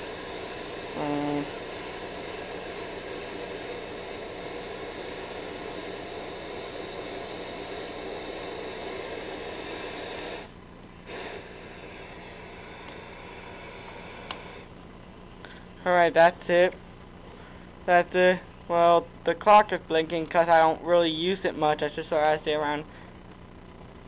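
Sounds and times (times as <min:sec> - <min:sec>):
steady hum: 0:00.0 - 0:24.0
tv static hiss: 0:00.0 - 0:24.0.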